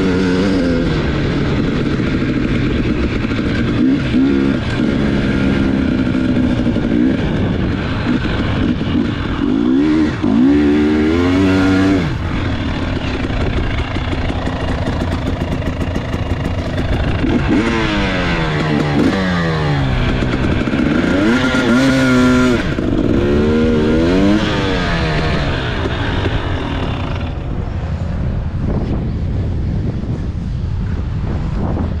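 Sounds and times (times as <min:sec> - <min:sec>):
dirt bike engine revving: 0:00.0 - 0:27.8.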